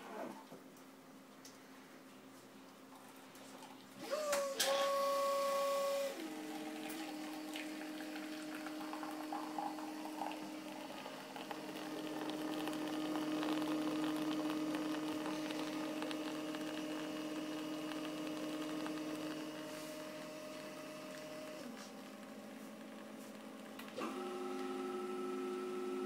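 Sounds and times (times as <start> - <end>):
coffee machine pump humming: 2.9 - 26.0
coffee streaming into cup: 2.9 - 26.0.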